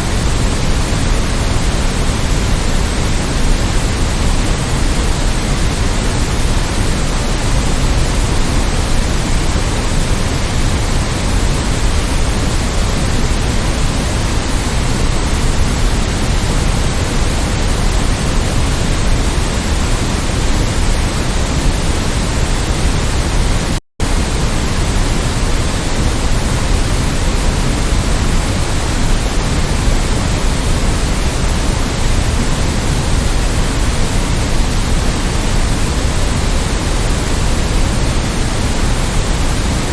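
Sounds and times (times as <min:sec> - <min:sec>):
electronic noise hiss: 0:00.0 - 0:39.9.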